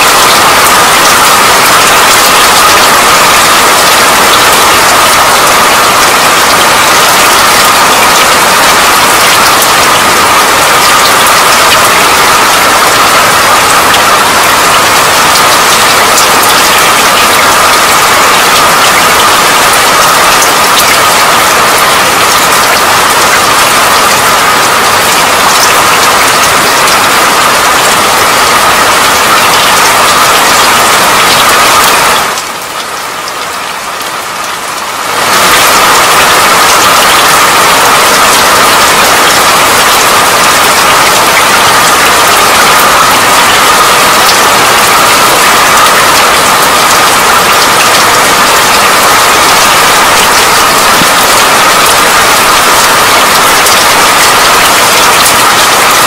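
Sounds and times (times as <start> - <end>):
heavy steady rain: 0.0 - 56.0.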